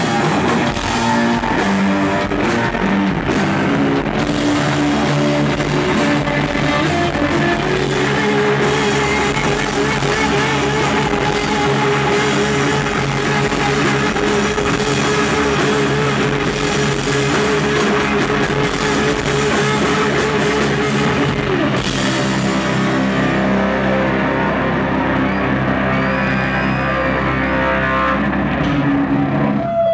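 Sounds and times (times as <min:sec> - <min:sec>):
distorted electric guitars: 0:00.0 - 0:29.9
drums: 0:00.0 - 0:29.9.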